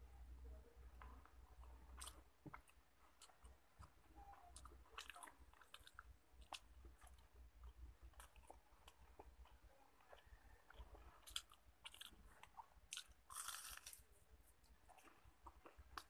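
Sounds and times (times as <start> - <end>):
chewing crispy fried food: 0.2 - 16.0.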